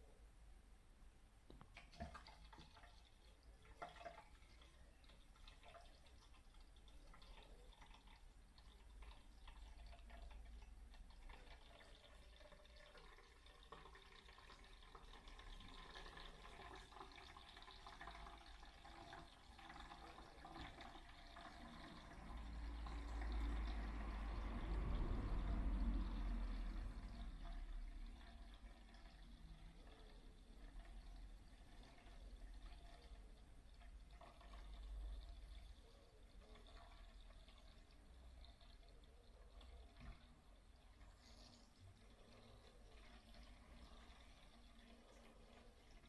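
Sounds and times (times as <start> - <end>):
water running and dripping: 1.6 - 46.0.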